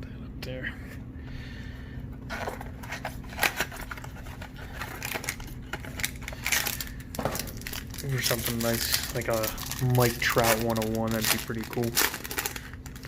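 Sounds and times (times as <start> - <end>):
steady low hum: 0.0 - 13.0
card packaging crinkling: 2.3 - 13.0.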